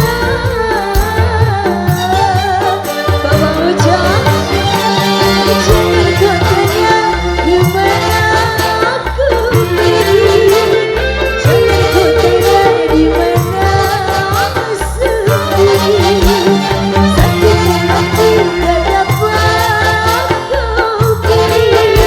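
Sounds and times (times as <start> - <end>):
drums and bass beat: 0.0 - 22.0
wavering lead melody: 0.0 - 22.0.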